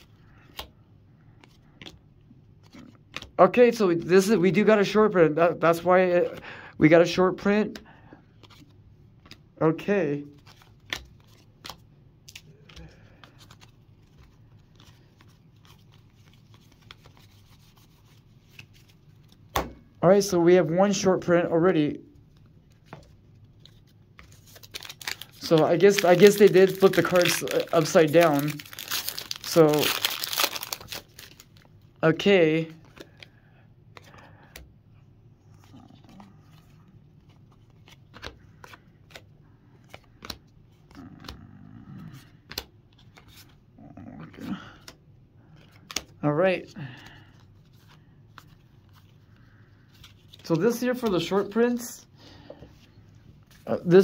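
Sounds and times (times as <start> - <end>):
trading cards rustling and clicking: 0.0 - 5.0, 7.4 - 21.0, 22.2 - 46.2, 46.8 - 54.0.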